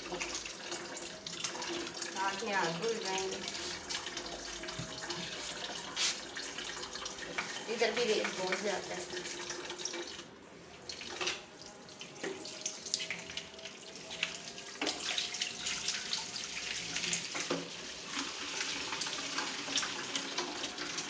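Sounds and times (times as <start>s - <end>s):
water splashing into washbasin: 0.0s - 21.0s.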